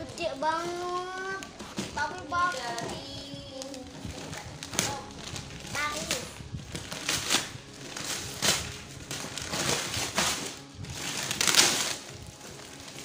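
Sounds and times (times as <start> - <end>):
wrapping paper tearing and crumpling: 0.0 - 13.0.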